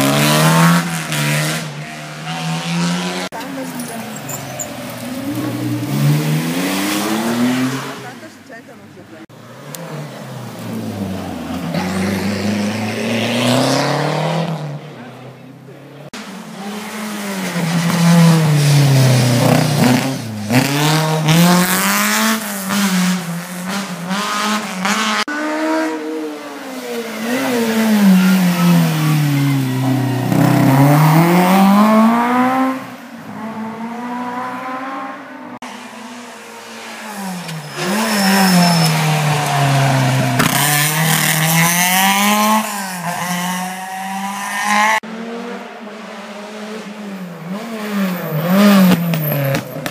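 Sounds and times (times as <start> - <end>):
rally car engines: 0.0 - 49.9.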